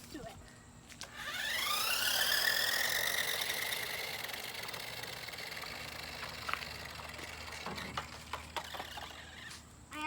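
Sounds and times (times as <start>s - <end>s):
toy electric motor whining: 1.0s - 10.0s.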